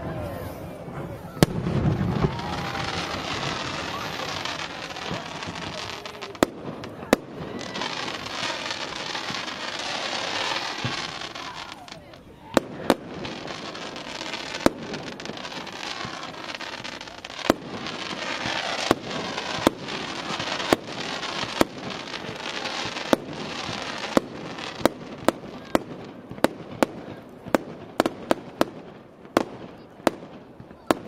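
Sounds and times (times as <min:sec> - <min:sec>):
fireworks bursting with sharp bangs: 0:00.0 - 0:31.0
fireworks crackling hiss: 0:00.0 - 0:31.0.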